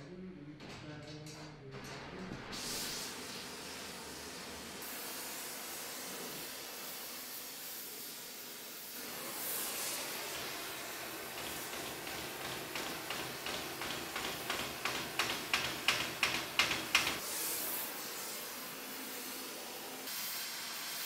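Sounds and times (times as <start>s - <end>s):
gas torch hissing: 2.5s - 21.0s.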